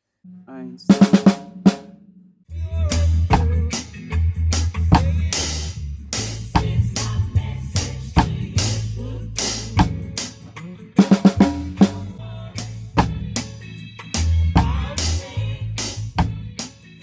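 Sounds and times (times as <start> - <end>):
bass line: 0.3 - 16.6
drum kit playing reggae: 0.3 - 17.0.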